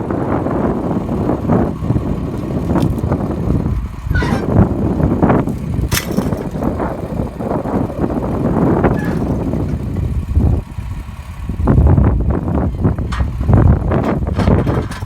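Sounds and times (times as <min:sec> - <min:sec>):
engine running loudly: 0:00.0 - 0:15.0.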